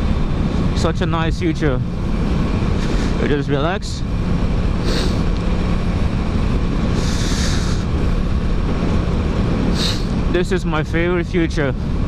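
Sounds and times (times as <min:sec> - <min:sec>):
motorcycle engine humming: 0:00.0 - 0:12.0.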